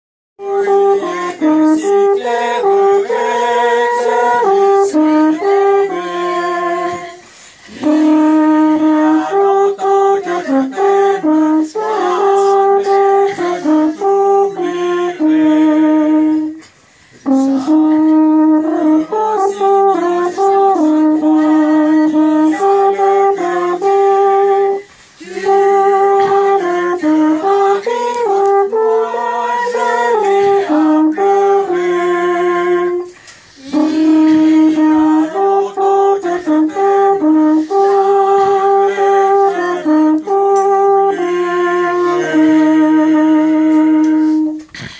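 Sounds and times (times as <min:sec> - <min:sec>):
alphorn melody: 0:00.4 - 0:44.9.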